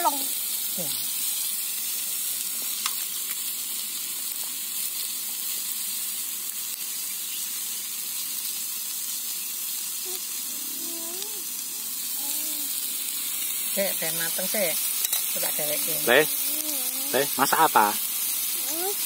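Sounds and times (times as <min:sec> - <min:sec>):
meat sizzling on a grill plate: 0:00.0 - 0:19.0.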